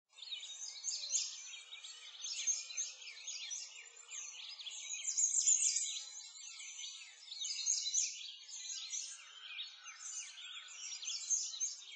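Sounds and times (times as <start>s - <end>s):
songbirds chirping and singing: 0.1s - 11.9s.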